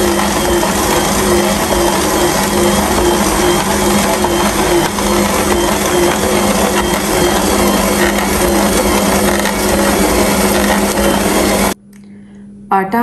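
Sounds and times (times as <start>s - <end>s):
stand mixer humming: 0.0s - 11.8s.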